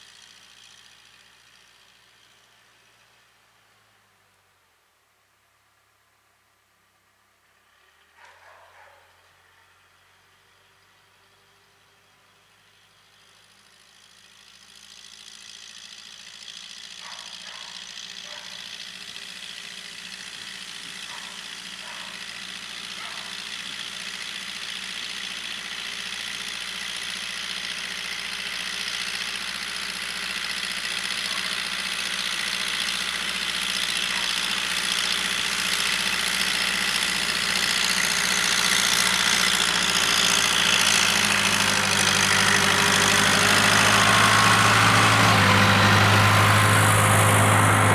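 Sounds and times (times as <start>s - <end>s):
diesel engine of backhoe running: 0.0s - 4.3s, 7.6s - 47.9s.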